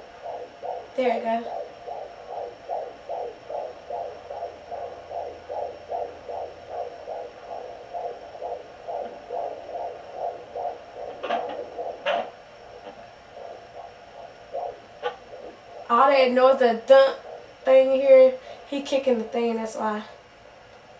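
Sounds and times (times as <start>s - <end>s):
fetal heartbeat on doppler speaker: 0.0s - 20.0s.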